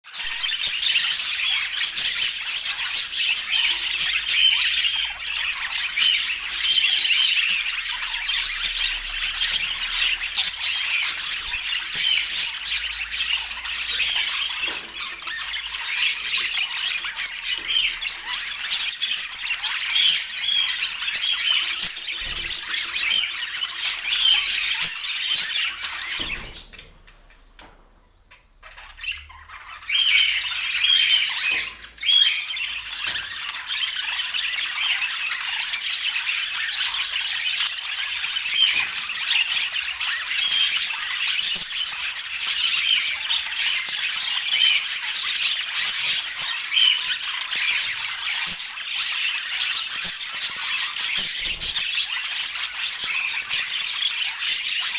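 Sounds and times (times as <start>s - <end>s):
budgies chattering and chirping: 0.1s - 54.9s.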